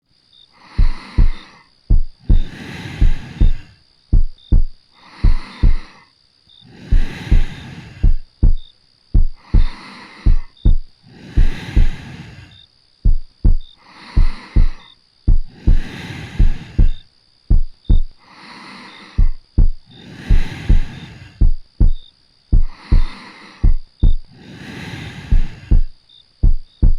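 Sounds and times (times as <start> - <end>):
soft breathing: 0.5 - 26.9
heartbeat thumps: 0.8 - 5.9, 6.9 - 12.1, 13.0 - 18.2, 19.2 - 24.3, 25.2 - 26.9.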